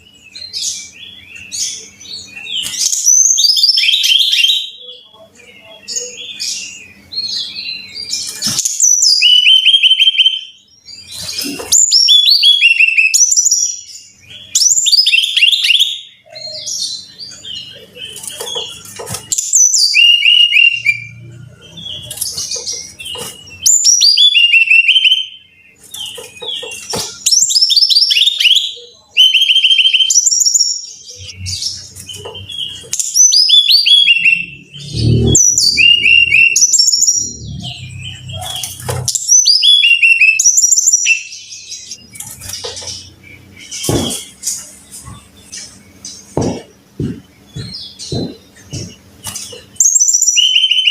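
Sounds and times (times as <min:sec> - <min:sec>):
bird singing whistled notes: 0:00.0 - 0:44.4, 0:45.1 - 0:50.9.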